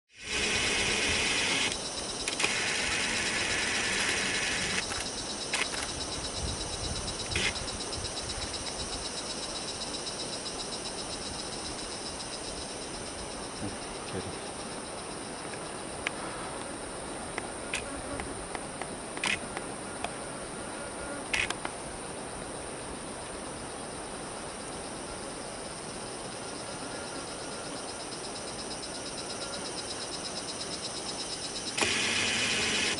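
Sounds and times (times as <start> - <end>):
insects buzzing: 0.1 - 32.9.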